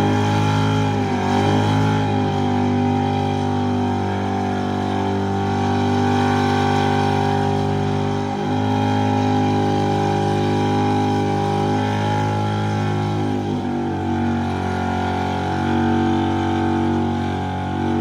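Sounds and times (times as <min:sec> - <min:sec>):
car engine at high revs: 0:00.0 - 0:18.0.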